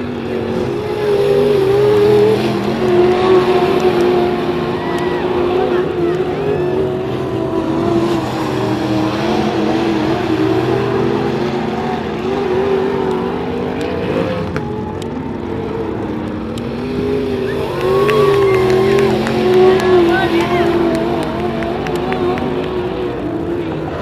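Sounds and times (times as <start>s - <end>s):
race car engines accelerating: 0.0s - 24.0s.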